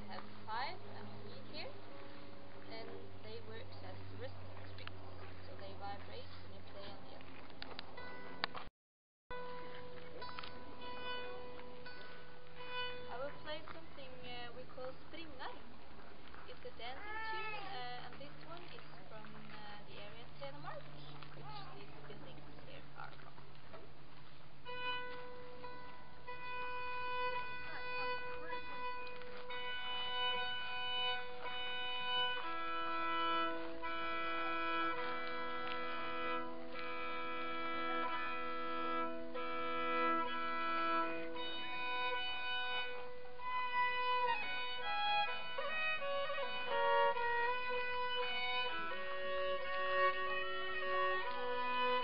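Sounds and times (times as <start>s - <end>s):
solo fiddle folk dance tune: 0.0s - 8.7s, 9.3s - 52.0s.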